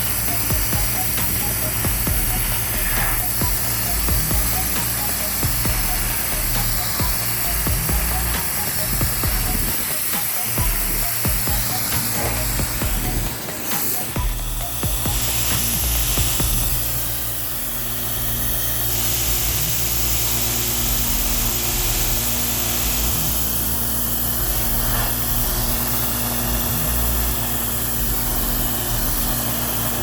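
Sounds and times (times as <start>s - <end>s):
high-pressure water spray hiss: 0.0s - 30.0s
pressure washer engine: 0.0s - 30.0s.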